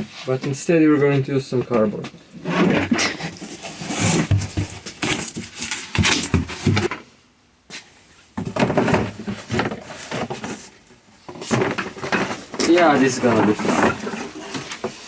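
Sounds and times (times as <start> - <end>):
cardboard rustling and scraping: 1.7 - 7.1, 7.7 - 15.0.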